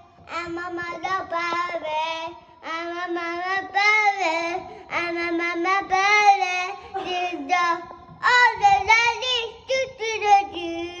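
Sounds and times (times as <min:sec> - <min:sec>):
young boy singing: 0:00.0 - 0:11.0.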